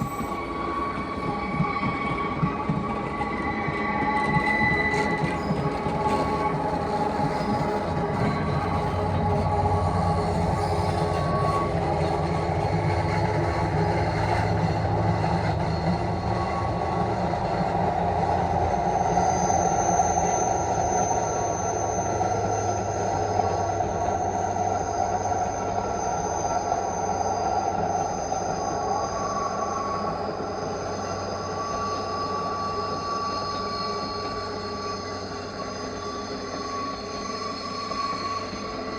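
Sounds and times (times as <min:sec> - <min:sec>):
train wheel flanges squealing: 0:00.0 - 0:38.9.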